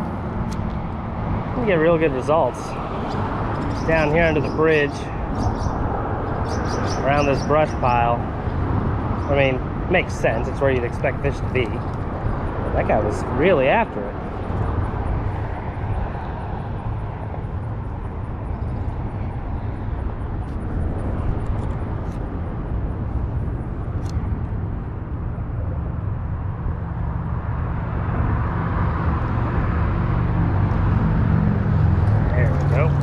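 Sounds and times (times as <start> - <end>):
road traffic rumble and hiss: 0.0 - 33.0.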